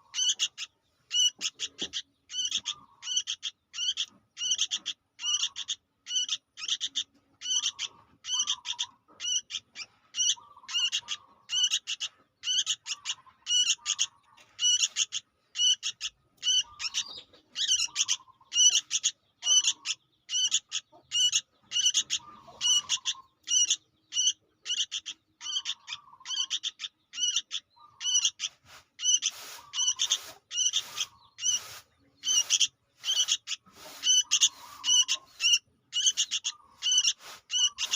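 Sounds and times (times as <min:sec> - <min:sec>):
bird calling high chirps: 0:00.0 - 0:37.9.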